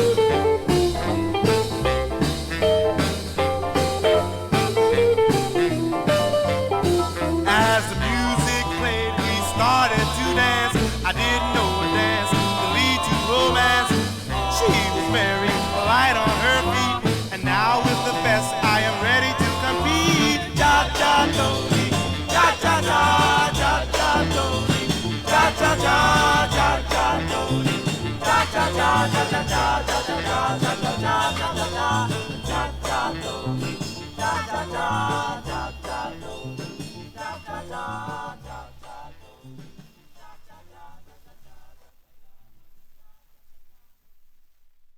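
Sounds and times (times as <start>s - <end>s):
cha-cha band playing: 0.0s - 40.3s.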